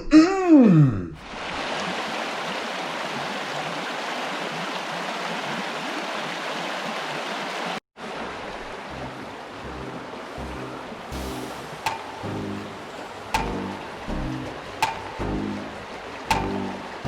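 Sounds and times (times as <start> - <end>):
creek water running over rocks: 1.2 - 17.0.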